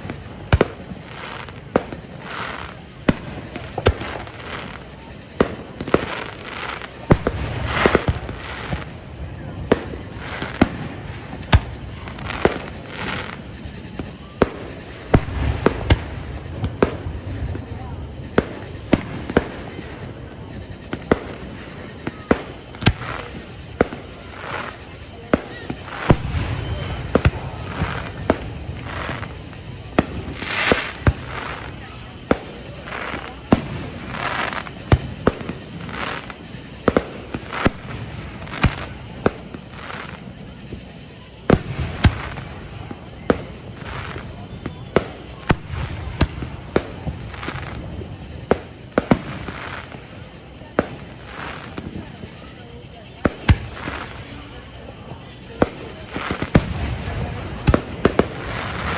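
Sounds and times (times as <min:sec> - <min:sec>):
fireworks bangs: 0:00.0 - 0:58.9
fireworks crackling: 0:00.0 - 0:58.9.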